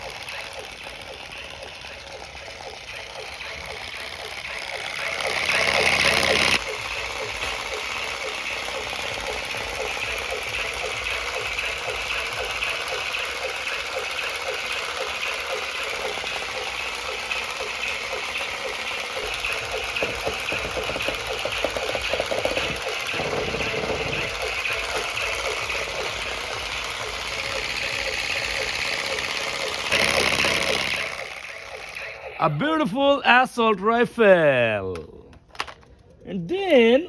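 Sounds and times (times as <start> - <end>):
toy motor buzzing and rattling: 0.0 - 32.3.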